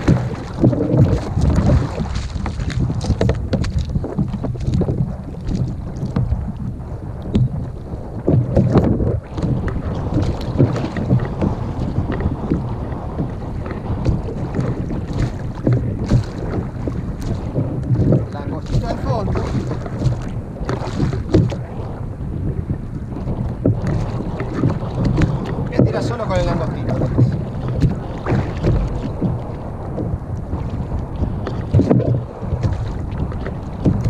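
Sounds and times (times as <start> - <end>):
water lapping against kayak hull: 0.0 - 34.0
water splashing: 0.0 - 34.0
wind rumbling on microphone: 0.0 - 34.0.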